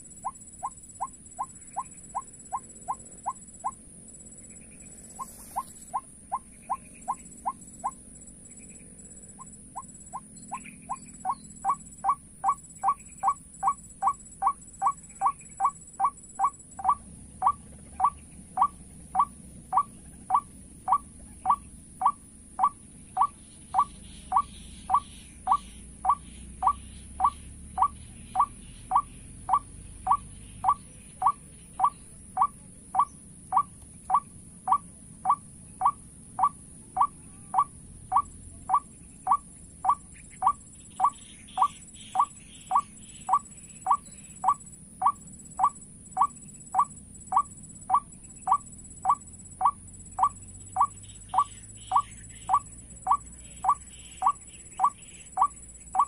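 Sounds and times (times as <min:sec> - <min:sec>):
rising squeaky bird call: 0:00.0 - 0:56.0.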